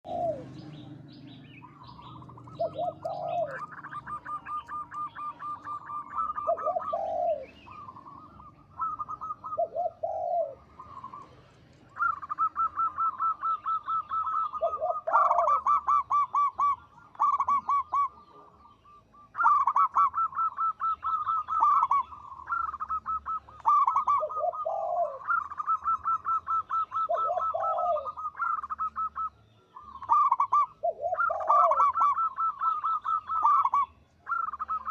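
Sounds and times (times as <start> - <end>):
dove cooing: 0.0 - 34.9
dove singing: 0.0 - 34.9.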